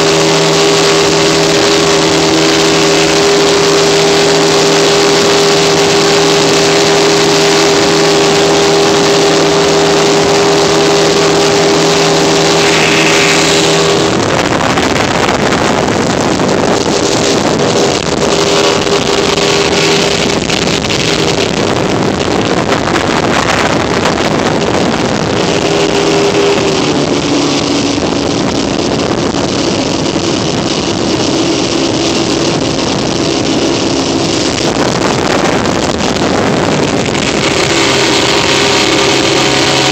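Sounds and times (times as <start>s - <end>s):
motorboat engine running: 0.0s - 39.9s
rushing water: 0.0s - 39.9s
wind: 0.0s - 39.9s.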